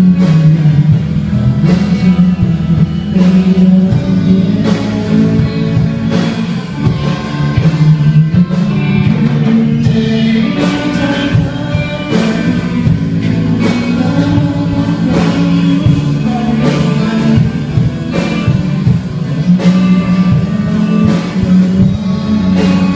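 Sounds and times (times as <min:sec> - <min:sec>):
guitar: 0:00.0 - 0:22.9
person singing: 0:00.0 - 0:22.9
steady drum beat: 0:00.0 - 0:22.9.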